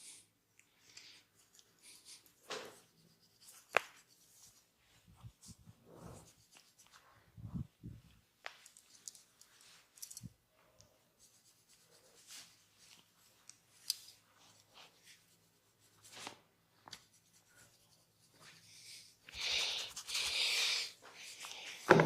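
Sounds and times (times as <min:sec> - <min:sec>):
hands rubbing skin and hair: 0:00.9 - 0:10.3, 0:11.1 - 0:22.0.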